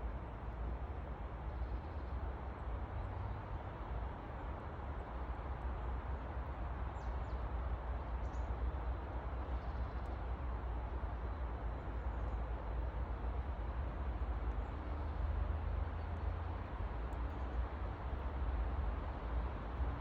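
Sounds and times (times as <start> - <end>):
rushing outdoor noise with rumble: 0.0 - 20.0.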